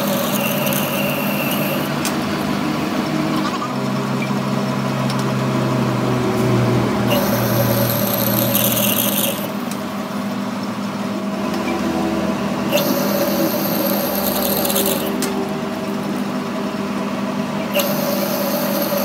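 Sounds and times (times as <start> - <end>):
lathe motor hum: 0.0 - 19.0.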